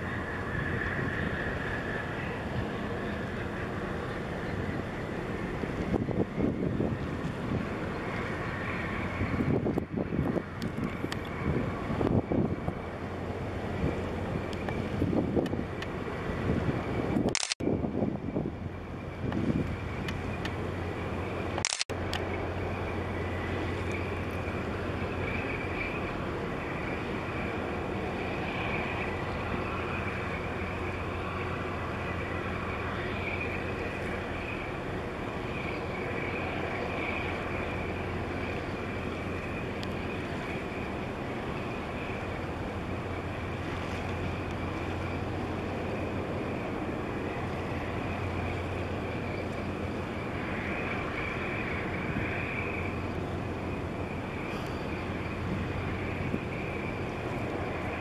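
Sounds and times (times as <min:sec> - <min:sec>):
constant low hum: 0:00.0 - 0:58.0
outdoor background noise: 0:00.0 - 0:58.0.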